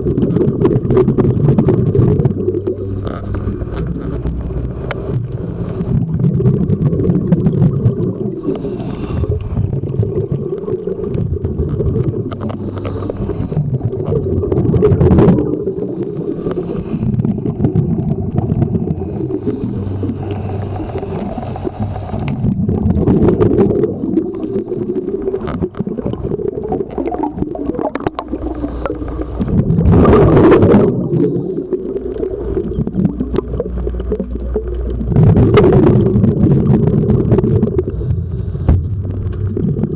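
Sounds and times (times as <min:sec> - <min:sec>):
underwater bubbles rumbling: 0:00.0 - 0:39.9.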